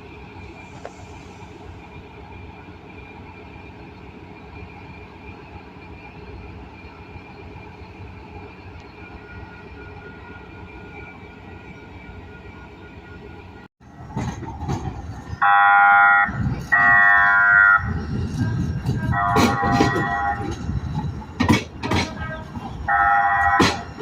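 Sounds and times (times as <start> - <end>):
train high whine: 0.0 - 24.0
train rumbling: 0.0 - 24.0.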